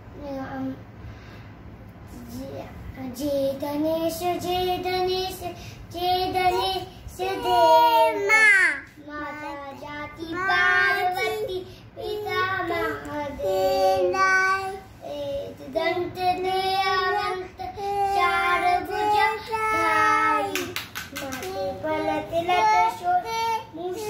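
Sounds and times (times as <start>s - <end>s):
boy singing unaccompanied: 3.0s - 24.0s.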